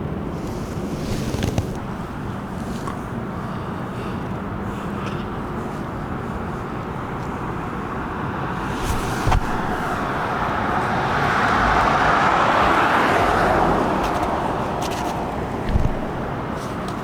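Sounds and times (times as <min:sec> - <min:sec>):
steady traffic hum: 0:00.0 - 0:17.0
vehicle passing: 0:03.0 - 0:17.0.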